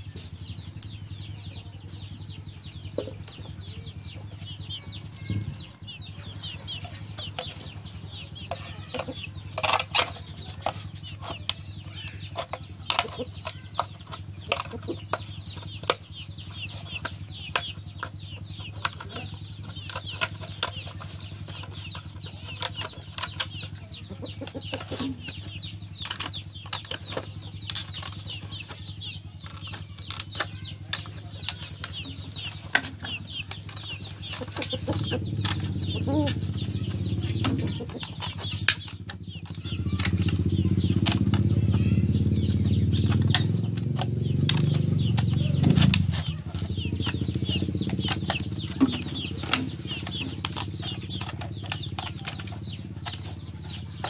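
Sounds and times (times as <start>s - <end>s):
scissors cutting plastic: 6.7s - 42.2s, 42.9s - 54.0s.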